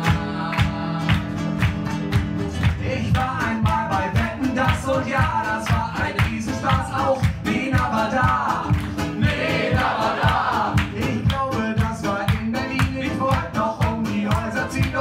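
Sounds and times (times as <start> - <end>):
men singing: 0.0 - 1.4, 2.7 - 15.0
acoustic guitars strummed: 0.0 - 15.0.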